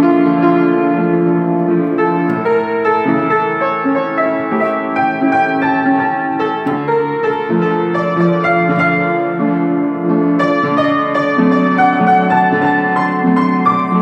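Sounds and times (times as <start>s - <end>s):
solo piano waltz: 0.0s - 14.0s.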